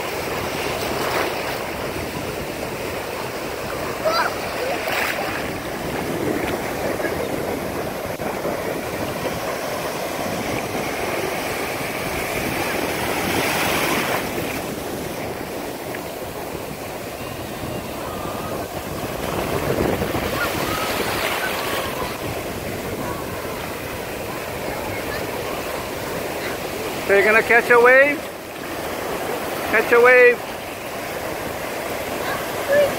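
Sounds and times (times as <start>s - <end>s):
small ocean waves breaking: 0.0s - 32.9s.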